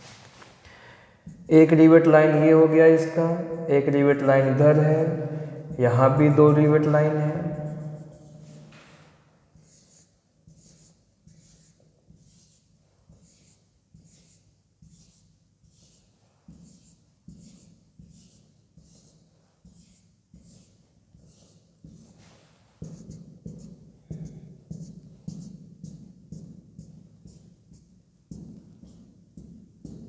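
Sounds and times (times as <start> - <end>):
marker pen on whiteboard: 1.2 - 30.0.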